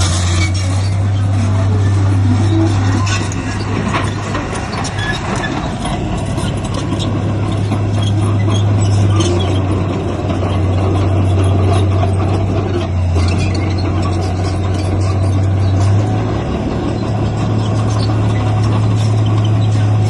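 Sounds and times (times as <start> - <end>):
diesel machinery engine humming: 0.0 - 20.0.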